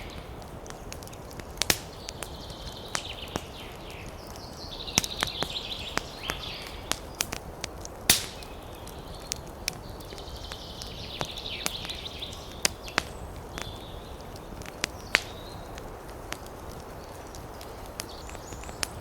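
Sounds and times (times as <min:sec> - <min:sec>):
fire pops and snaps: 0:00.0 - 0:19.0
low flame noise: 0:00.0 - 0:19.0.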